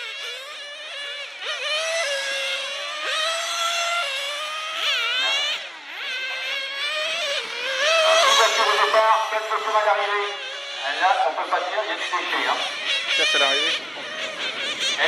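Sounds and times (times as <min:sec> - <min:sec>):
toy car engines buzzing: 0:00.0 - 0:15.0.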